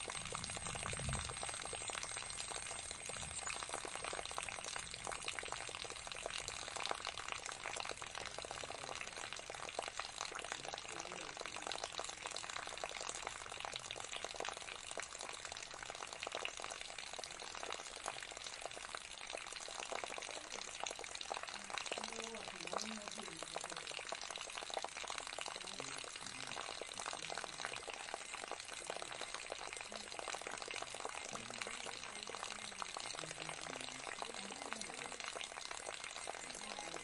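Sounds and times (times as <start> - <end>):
fountain water splashing and dripping: 0.0 - 37.0.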